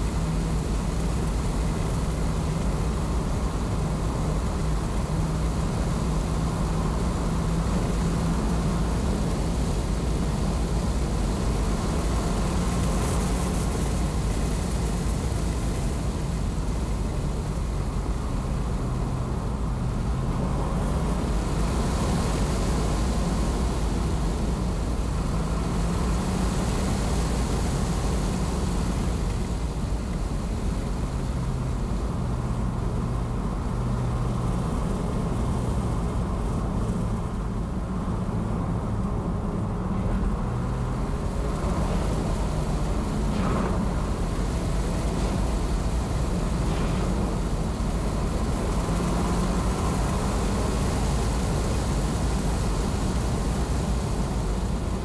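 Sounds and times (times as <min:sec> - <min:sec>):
tyre and road noise: 0:00.0 - 0:55.0
wind buffeting through car windows: 0:00.0 - 0:55.0.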